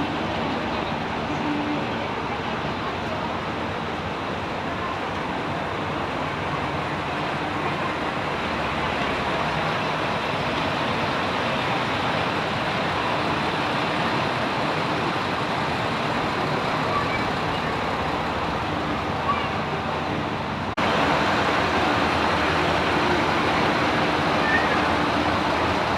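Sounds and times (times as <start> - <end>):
train running: 0.0 - 25.9.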